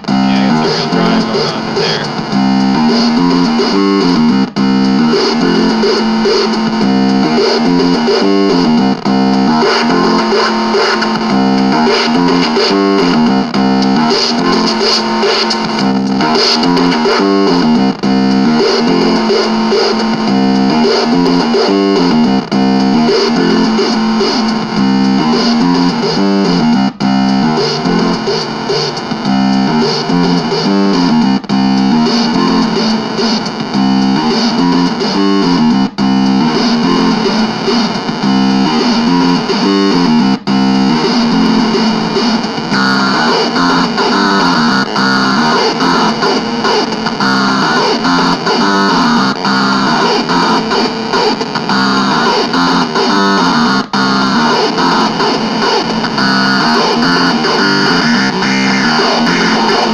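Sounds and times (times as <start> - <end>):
distorted synth pattern: 0.0 - 59.9.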